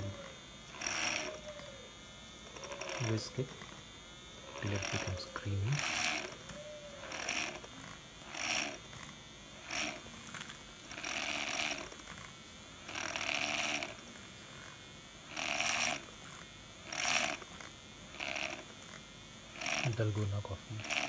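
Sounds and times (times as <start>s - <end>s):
milk frother whisk churning: 0.0s - 1.5s, 2.4s - 3.8s, 4.4s - 21.0s.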